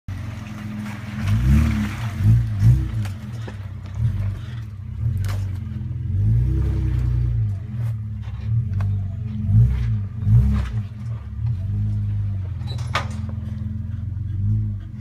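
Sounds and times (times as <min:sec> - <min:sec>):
vehicle engine revving: 0:00.1 - 0:15.0.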